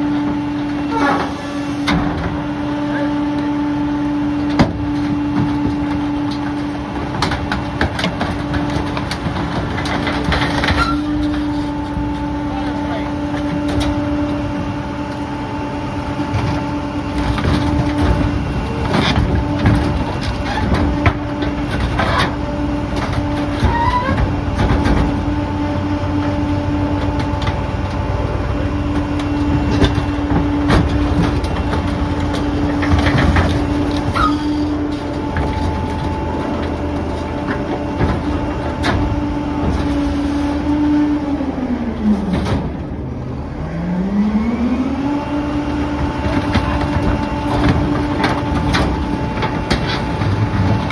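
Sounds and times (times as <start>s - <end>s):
debris clanking and crunching: 0.0s - 44.2s, 45.7s - 50.9s
truck engine whining: 0.0s - 50.9s.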